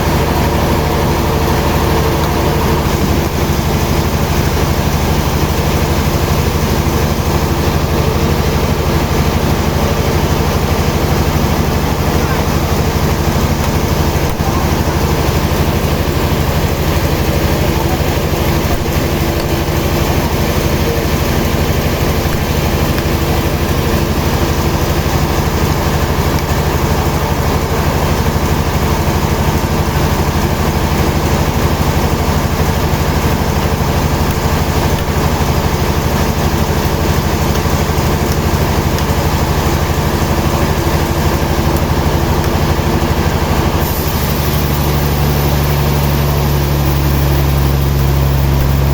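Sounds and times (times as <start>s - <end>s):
sawmill machinery droning: 0.0s - 48.9s.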